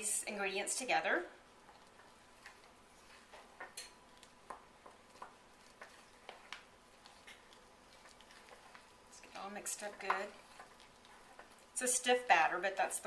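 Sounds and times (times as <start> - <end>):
spoon stirring batter in bowl: 0.0 - 13.0.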